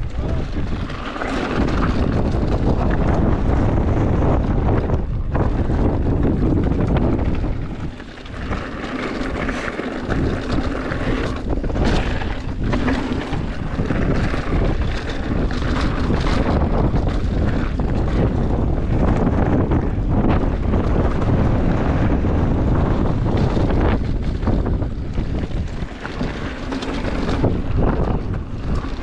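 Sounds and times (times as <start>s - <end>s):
bike rumbling over trail: 0.0s - 29.0s
wind rushing over microphone: 0.0s - 29.0s.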